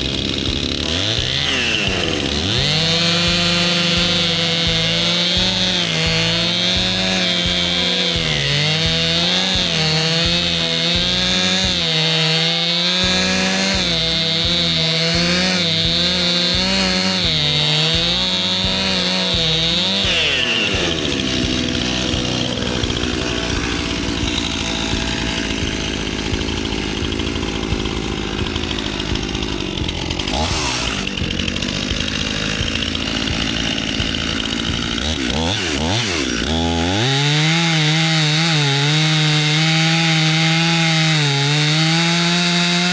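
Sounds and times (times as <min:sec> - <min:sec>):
chainsaw cutting tree trunk: 0:00.0 - 0:42.9.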